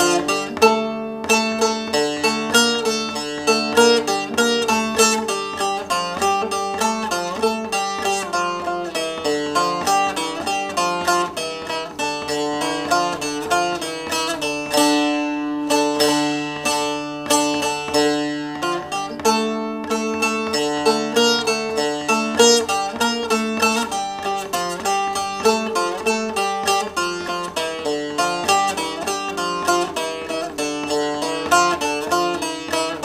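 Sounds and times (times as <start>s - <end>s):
long-necked lute strummed with plectrum: 0.0s - 33.0s.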